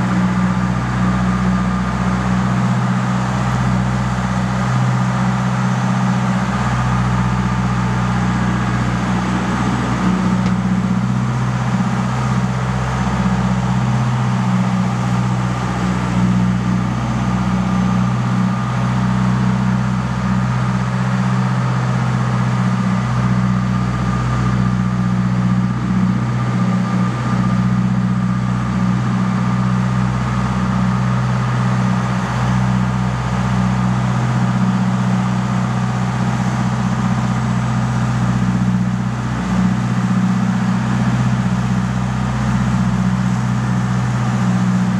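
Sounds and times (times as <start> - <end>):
boat engine droning: 0.0 - 44.9.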